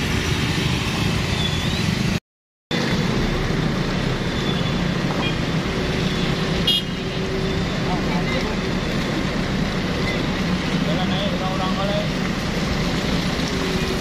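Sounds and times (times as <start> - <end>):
car and motorcycle engines in traffic: 0.0 - 14.0.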